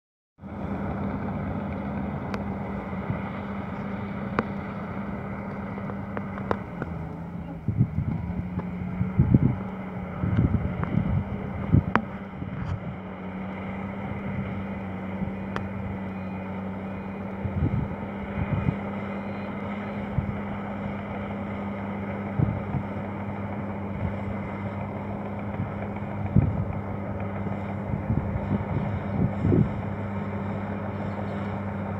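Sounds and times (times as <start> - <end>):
bulldozer diesel engine running: 0.4 - 31.9
wind buffeting microphone: 0.4 - 31.9.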